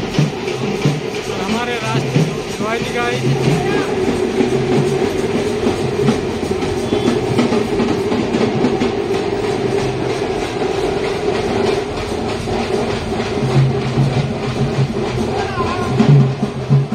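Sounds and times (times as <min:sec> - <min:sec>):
tractor diesel engine running: 0:00.0 - 0:16.7.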